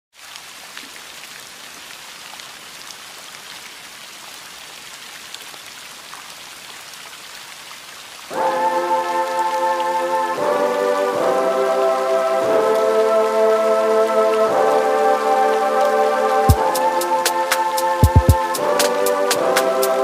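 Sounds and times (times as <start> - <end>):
rain patter: 0.1 - 20.0.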